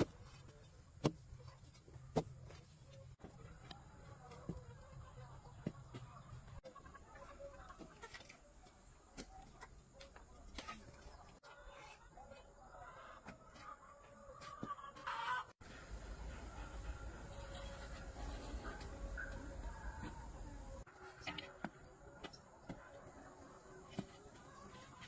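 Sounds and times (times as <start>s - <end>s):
chickens clucking faintly: 0.0s - 25.0s.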